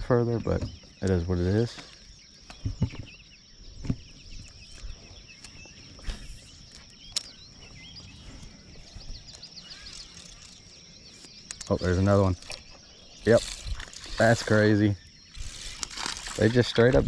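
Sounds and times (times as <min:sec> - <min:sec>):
small birds chirping: 0:00.0 - 0:17.0
high insect buzz: 0:01.7 - 0:17.0.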